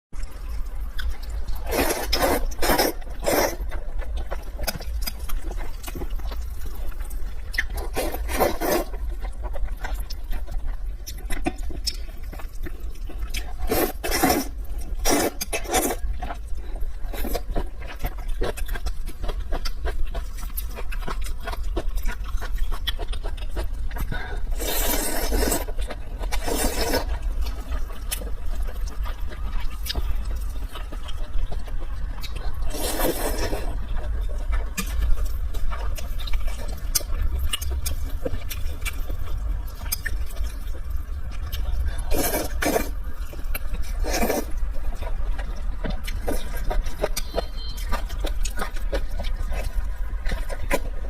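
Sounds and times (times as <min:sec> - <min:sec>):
biting and chewing: 0:00.2 - 0:51.0
steady low hum: 0:00.2 - 0:51.0.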